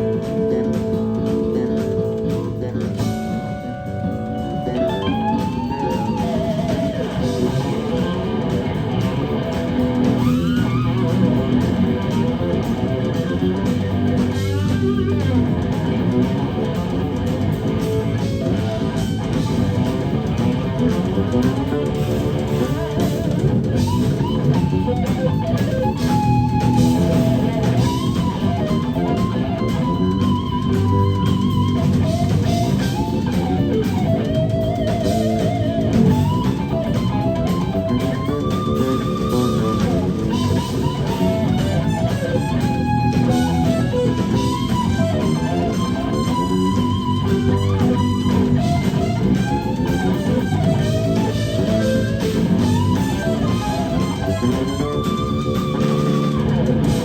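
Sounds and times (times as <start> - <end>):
bass guitar: 0.0 - 57.0
drums: 0.0 - 57.0
electric guitar with string bends: 0.0 - 57.0.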